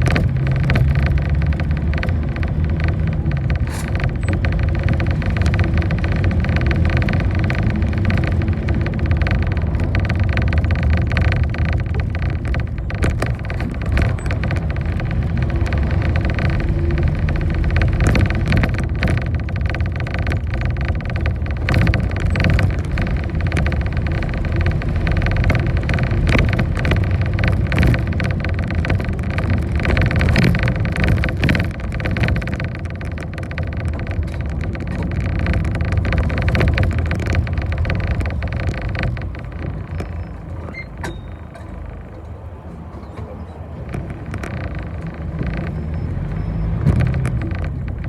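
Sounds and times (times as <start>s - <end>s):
bus engine and road drone: 0.0s - 48.0s
clicks and rattles: 0.0s - 48.0s.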